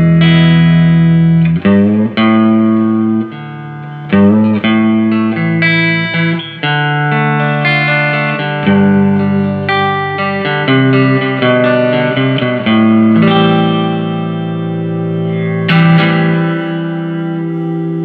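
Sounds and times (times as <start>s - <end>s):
electric guitar notes: 0.0s - 18.0s.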